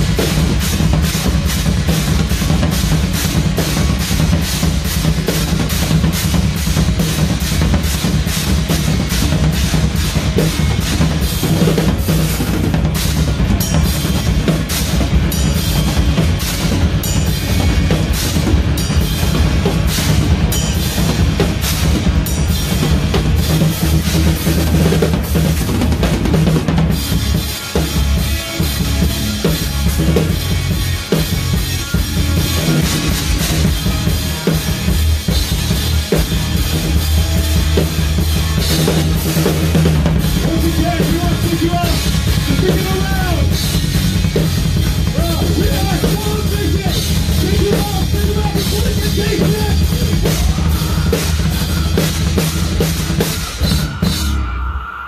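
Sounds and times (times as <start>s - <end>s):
bass guitar: 0.0s - 54.8s
heavy distorted guitars: 0.0s - 55.0s.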